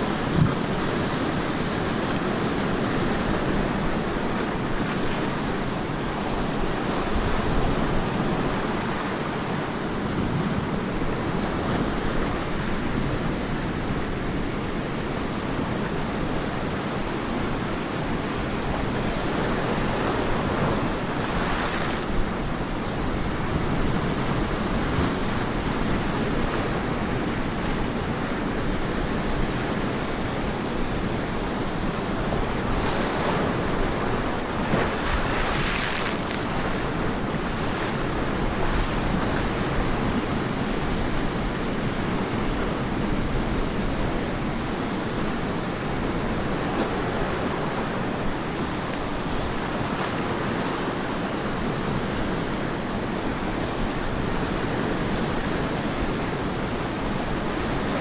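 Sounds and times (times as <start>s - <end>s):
ocean surf breaking on a beach: 0.0s - 58.0s.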